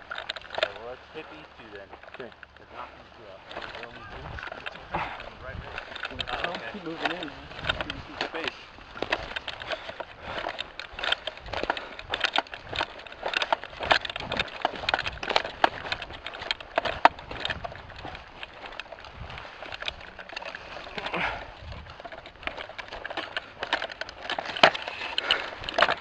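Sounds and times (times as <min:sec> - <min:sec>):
footsteps crunching through dry twigs: 0:00.0 - 0:26.0.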